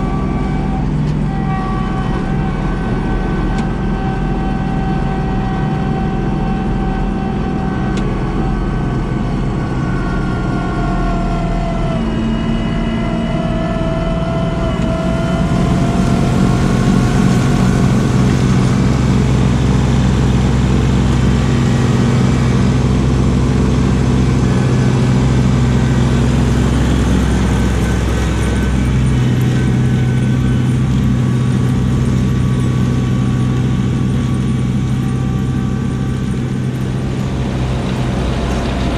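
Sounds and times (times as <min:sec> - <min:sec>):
snowblower whining: 0:00.0 - 0:38.9
tractor diesel engine running: 0:00.0 - 0:38.9.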